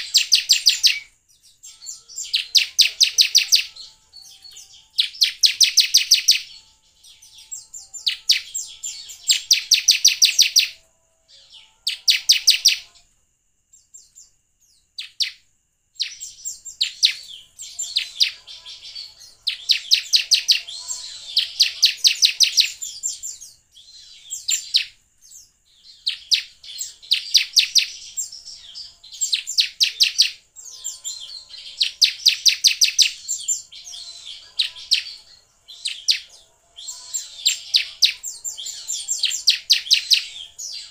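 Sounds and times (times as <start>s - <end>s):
bird high chip notes: 0.0s - 13.1s, 16.0s - 24.9s, 25.8s - 40.9s.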